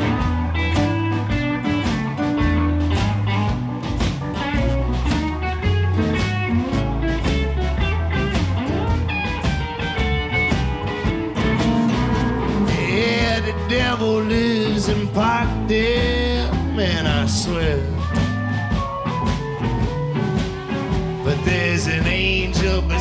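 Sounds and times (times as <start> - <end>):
acoustic guitar: 0.0 - 23.0
electric bass: 0.0 - 23.0
electric guitar: 0.0 - 23.0
steady drum beat: 0.0 - 23.0.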